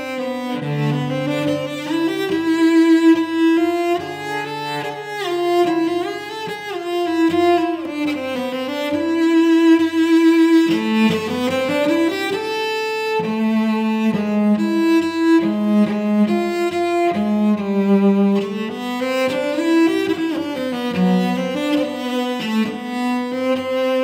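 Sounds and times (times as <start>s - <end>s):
bowed cello melody: 0.0s - 24.0s.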